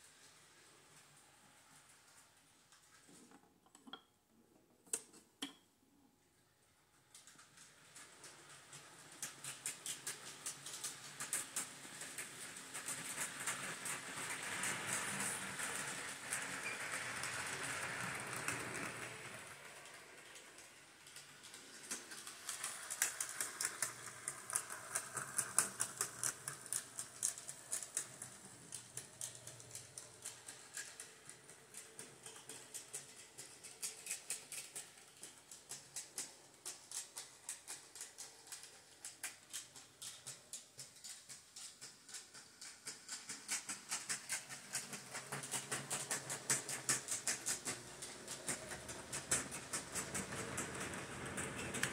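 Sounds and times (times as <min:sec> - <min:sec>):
model train wheels clicking: 0:07.1 - 0:51.9.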